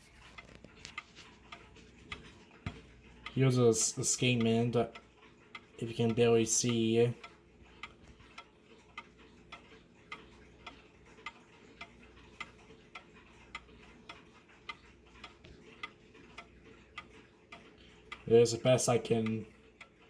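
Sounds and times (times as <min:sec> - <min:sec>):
clock ticking faintly: 0:00.0 - 0:20.0.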